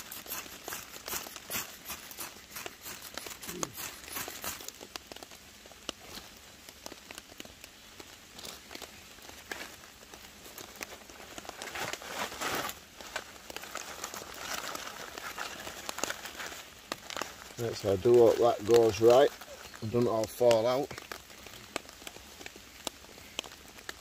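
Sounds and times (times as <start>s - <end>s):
burning bag crackling: 0.0s - 24.0s
paper bag crinkling: 0.0s - 24.0s
rain pattering: 0.0s - 24.0s.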